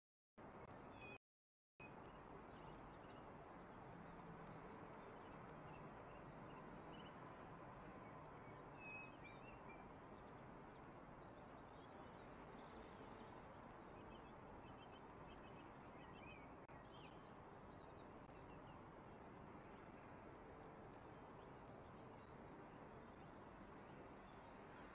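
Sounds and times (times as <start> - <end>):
faint distant city hum: 1.8 - 24.9.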